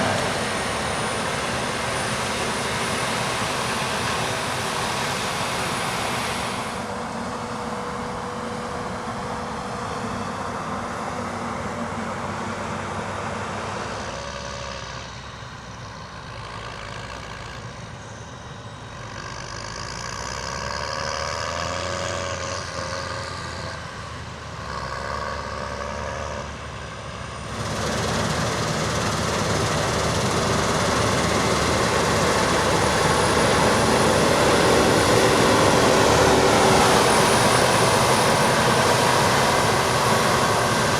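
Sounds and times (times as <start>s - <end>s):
diesel farm machinery engines: 0.0s - 40.9s.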